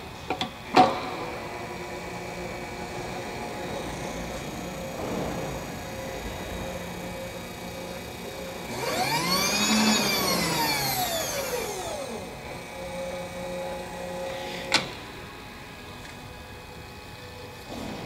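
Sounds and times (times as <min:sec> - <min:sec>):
motor humming and whining: 0:00.0 - 0:18.0.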